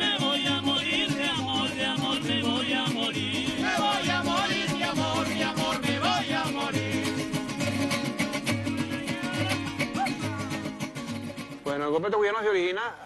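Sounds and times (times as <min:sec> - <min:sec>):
strummed guitars: 0:00.0 - 0:11.9.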